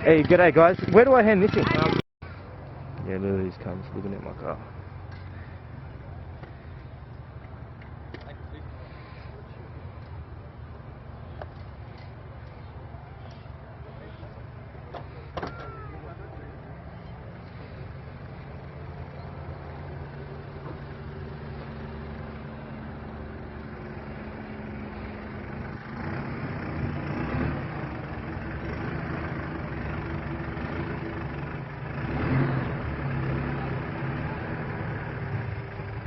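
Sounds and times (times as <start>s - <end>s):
car engine idling: 1.6s - 32.0s.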